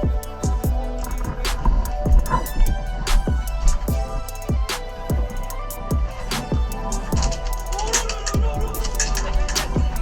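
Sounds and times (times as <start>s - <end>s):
hip hop beat music: 0.0s - 10.0s.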